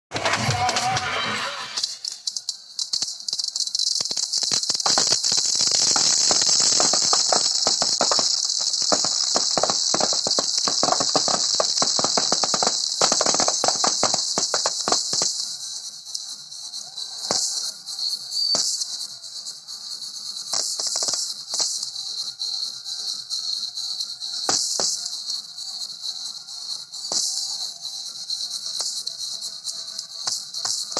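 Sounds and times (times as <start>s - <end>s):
firecrackers cracking and banging: 0.1s - 30.9s
steady high hiss: 0.8s - 30.9s.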